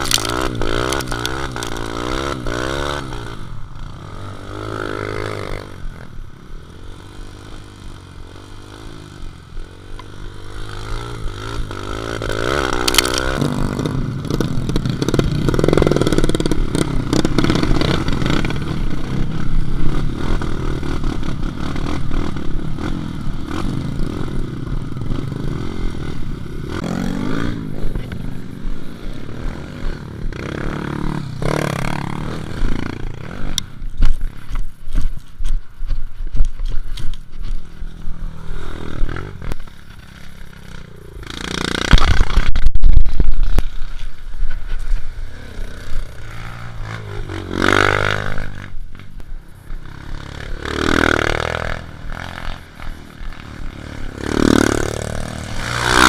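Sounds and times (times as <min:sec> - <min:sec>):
bike rattling over bumps: 0:00.0 - 0:07.7, 0:08.4 - 0:56.0
dirt bike engine revving: 0:00.0 - 0:35.0, 0:37.4 - 0:56.0.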